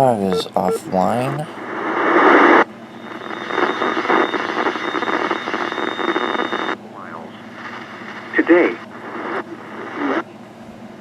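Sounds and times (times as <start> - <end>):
radio static hiss: 0.0 - 2.6, 3.6 - 10.2
faint steady whine: 0.0 - 11.0.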